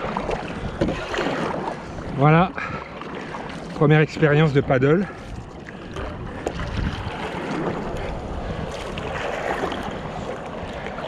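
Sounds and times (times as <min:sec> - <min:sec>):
wind rumbling on microphone: 0:00.0 - 0:02.8, 0:04.5 - 0:11.0
water sloshing and splashing: 0:00.0 - 0:11.0.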